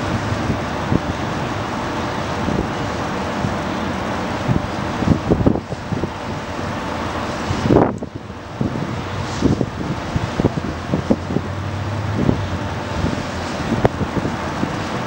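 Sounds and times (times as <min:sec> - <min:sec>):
distant city traffic hiss: 0:00.0 - 0:15.0
wind buffeting microphone: 0:00.0 - 0:15.0.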